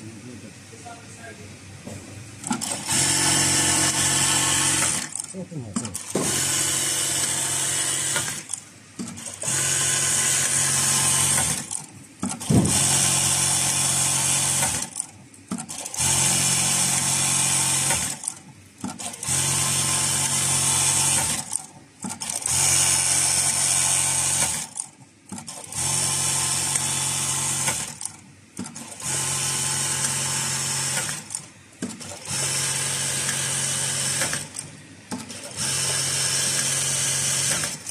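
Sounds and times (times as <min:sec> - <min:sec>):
sewing machine stitching: 0:02.4 - 0:37.9.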